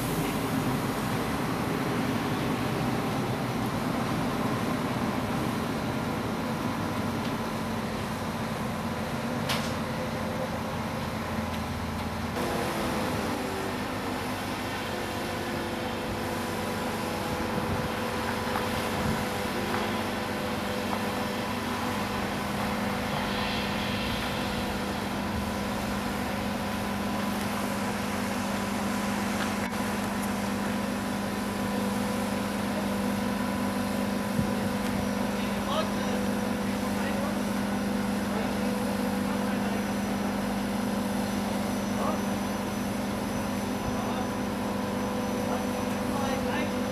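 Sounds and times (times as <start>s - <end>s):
crane diesel engine droning: 0.0s - 46.9s.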